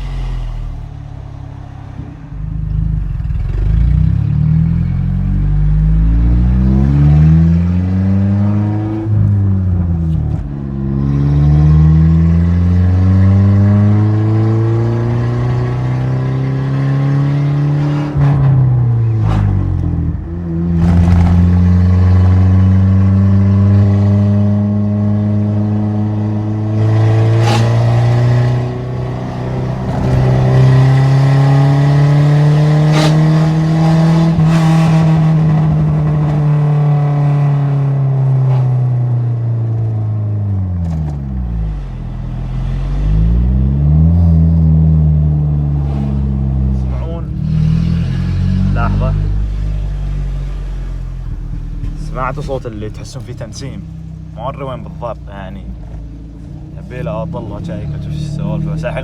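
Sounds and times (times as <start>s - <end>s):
pickup truck engine accelerating: 0.0s - 10.2s, 11.4s - 59.0s.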